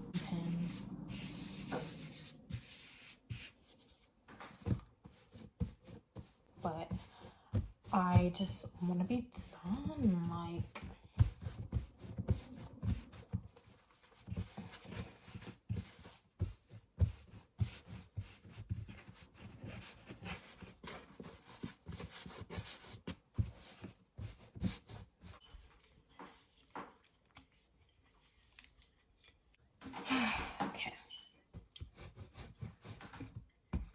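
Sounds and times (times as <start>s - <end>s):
dough rubbing: 0.0s - 29.6s, 31.5s - 33.9s.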